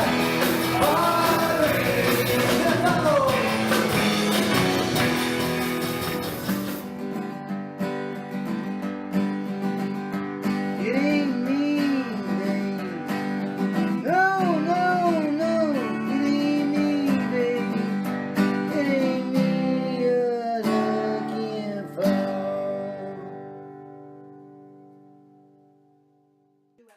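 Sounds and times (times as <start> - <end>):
strummed acoustic guitar: 0.0 - 26.9.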